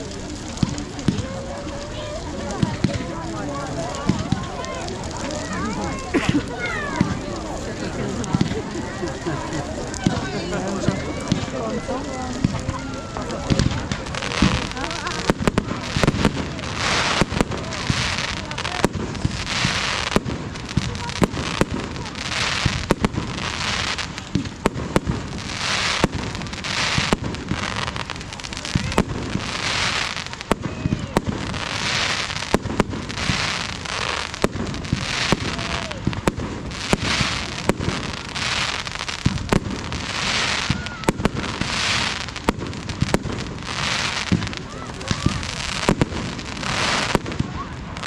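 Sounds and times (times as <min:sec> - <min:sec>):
fireworks bangs: 0:00.0 - 0:48.0
fireworks hissing and crackling: 0:00.0 - 0:48.0.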